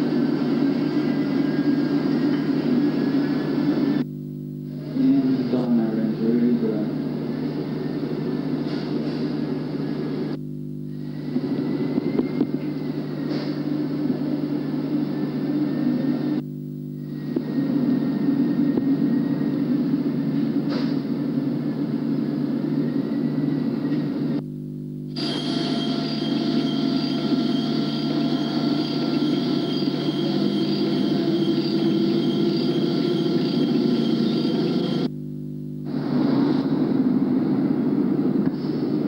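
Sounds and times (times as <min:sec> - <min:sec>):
constant hum: 0:00.0 - 0:39.0.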